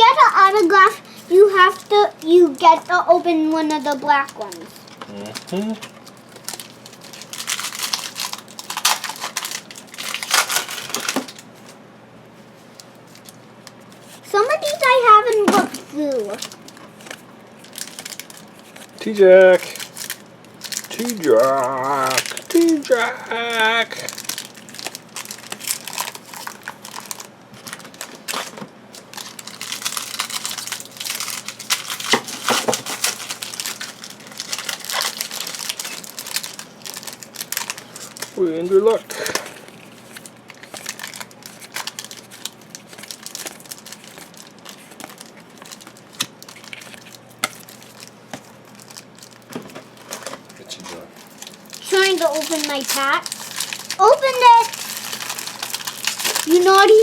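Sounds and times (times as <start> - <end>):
foil wrappers crinkling and tearing: 0.0 - 11.8, 12.4 - 57.0.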